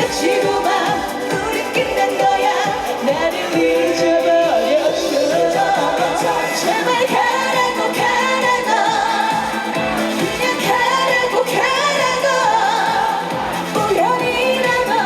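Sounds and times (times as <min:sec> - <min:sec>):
amplified pop accompaniment: 0:00.0 - 0:15.0
woman singing through pa: 0:00.0 - 0:15.0.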